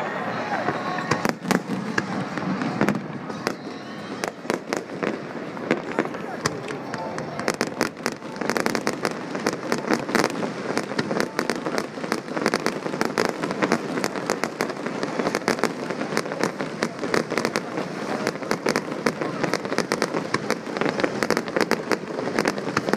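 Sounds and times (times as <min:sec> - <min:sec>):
fireworks bangs and crackling: 0:00.0 - 0:22.9.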